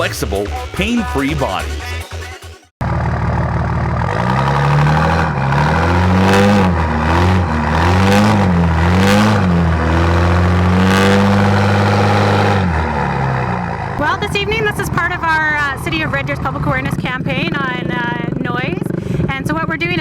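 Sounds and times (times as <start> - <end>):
vehicle engine revving: 2.8 - 20.0.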